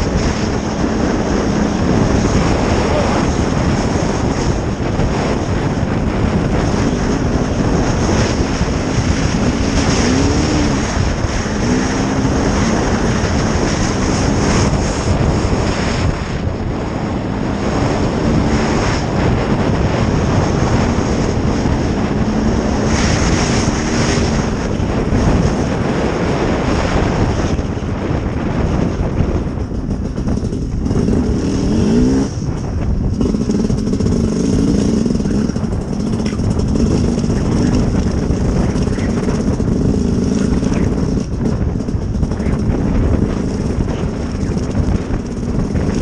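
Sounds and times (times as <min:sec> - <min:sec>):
motorcycle engine revving: 0:00.0 - 0:46.0
wind noise on microphone: 0:00.0 - 0:46.0.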